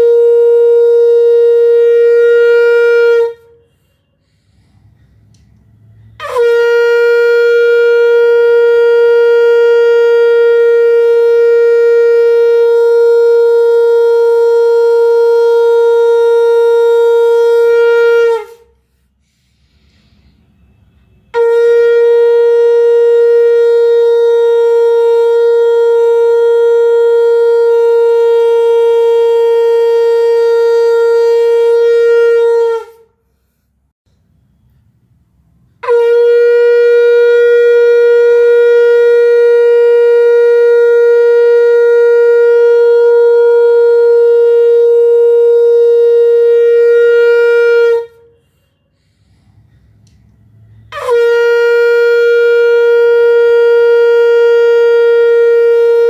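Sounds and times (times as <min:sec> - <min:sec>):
conch shell blowing: 0:00.0 - 0:34.7, 0:35.3 - 0:56.0.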